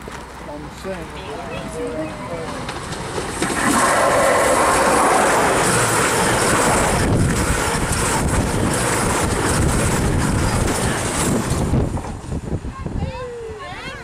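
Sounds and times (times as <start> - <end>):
train wheels rumbling and hissing: 0.0 - 13.6.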